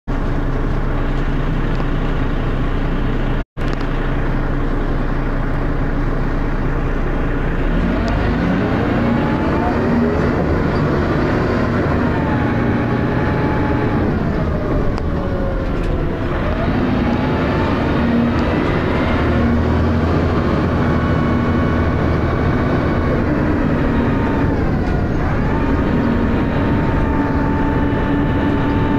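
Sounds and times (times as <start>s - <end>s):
bus diesel engine and gearbox whine: 0.1s - 28.9s.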